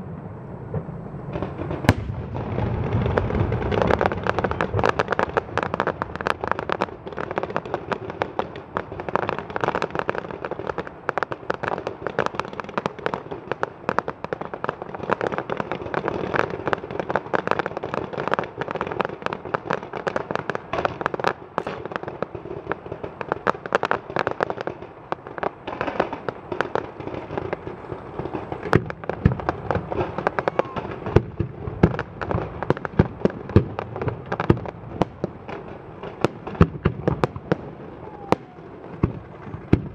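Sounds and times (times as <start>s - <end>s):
fireworks crackling and popping: 0.0s - 39.9s
fireworks loud bangs: 0.0s - 39.9s.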